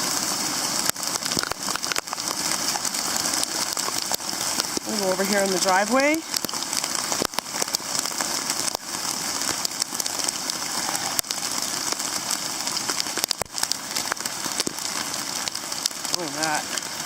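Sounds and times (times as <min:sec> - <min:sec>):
heavy rain pouring: 0:00.0 - 0:17.0
raindrops clicking close by: 0:00.0 - 0:17.0.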